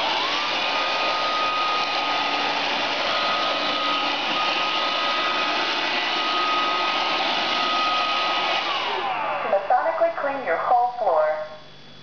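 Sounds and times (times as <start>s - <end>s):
robot vacuum whirring: 0.0s - 10.3s.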